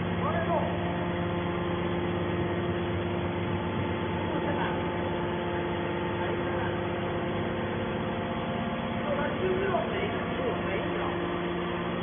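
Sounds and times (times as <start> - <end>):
electric motor and pump humming: 0.0 - 12.0.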